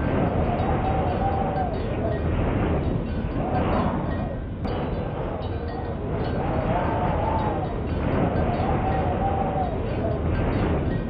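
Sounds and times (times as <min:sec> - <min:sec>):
faint wind whistle: 0:00.0 - 0:11.0
wind blowing in gusts: 0:00.0 - 0:11.0.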